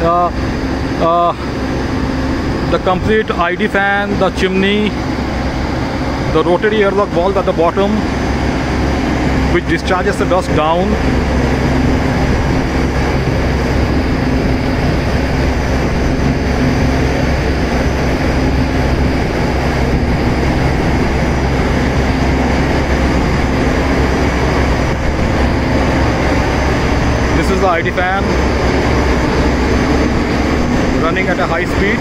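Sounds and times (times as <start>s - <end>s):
dust collector fan drone: 0.0s - 32.0s.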